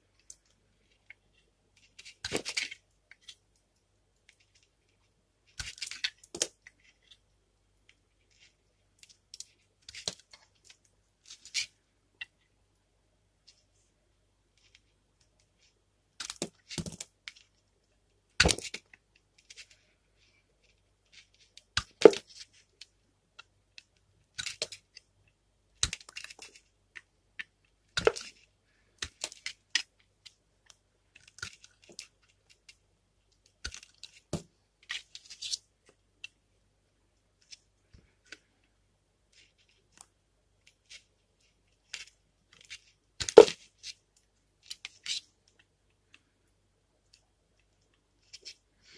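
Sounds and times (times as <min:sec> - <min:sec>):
knife cutting soap: 0:00.2 - 0:03.6, 0:04.2 - 0:12.4, 0:14.5 - 0:17.6, 0:18.3 - 0:32.8, 0:33.4 - 0:36.4, 0:39.3 - 0:46.3.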